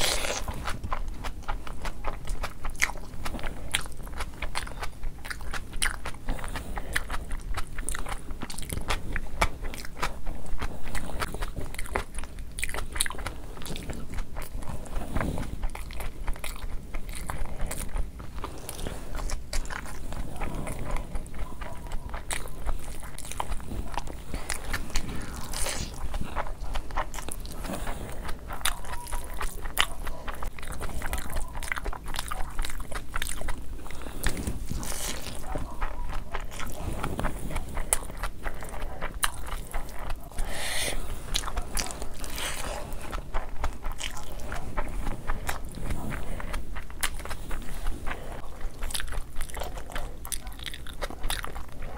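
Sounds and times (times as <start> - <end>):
wet chewing and smacking: 0.0 - 51.9.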